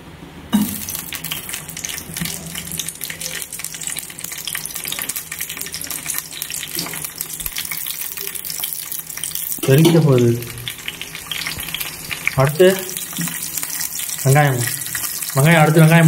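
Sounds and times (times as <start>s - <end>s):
chillies sizzling in hot oil: 0.6s - 16.0s.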